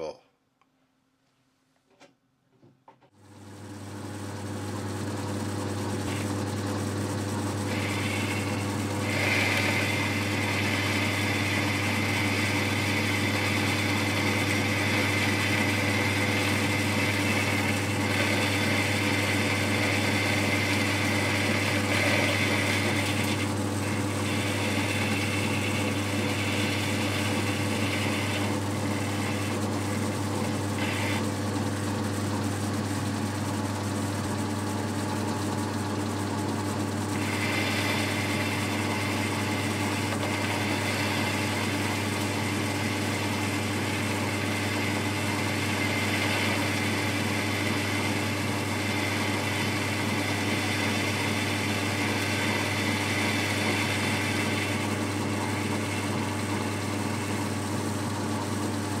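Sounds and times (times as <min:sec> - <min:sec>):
lathe motor hum: 0:03.2 - 0:59.0.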